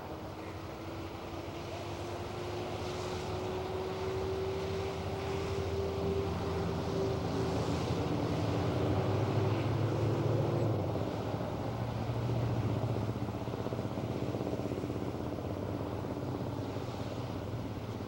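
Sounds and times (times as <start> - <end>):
steady engine hum: 0.0 - 18.0.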